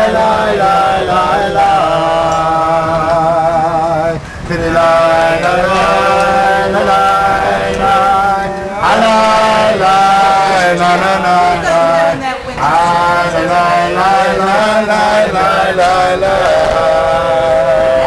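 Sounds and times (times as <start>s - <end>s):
low drone: 0.0s - 18.0s
slow vocal chant: 0.0s - 18.0s.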